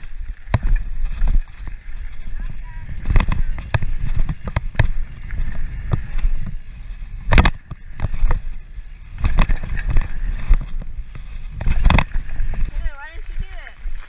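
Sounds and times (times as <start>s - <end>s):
bike clattering over bumps: 0.0s - 14.0s
bike tyres rolling over dirt: 0.0s - 14.0s
wind rumbling on microphone: 0.0s - 14.0s.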